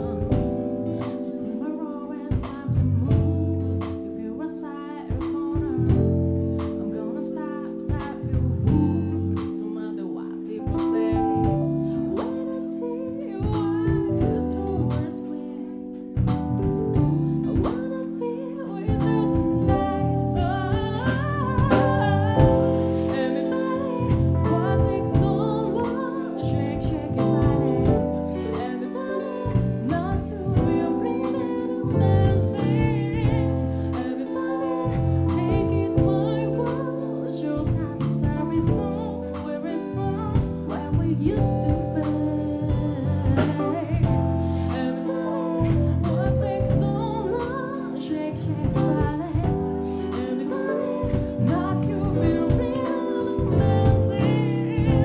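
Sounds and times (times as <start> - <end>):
live band playing: 0.0 - 1.3, 10.4 - 55.0
woman singing into microphone: 0.0 - 55.0.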